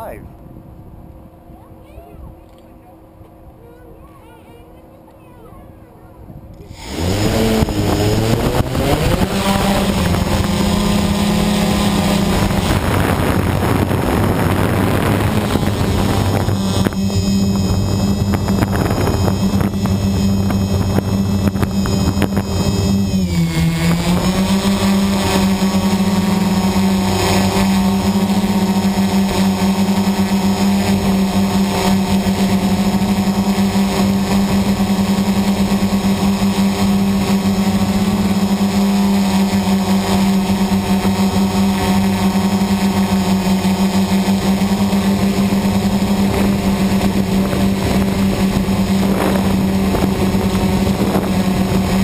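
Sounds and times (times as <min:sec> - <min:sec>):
model aircraft motor whine: 0:06.6 - 0:52.0.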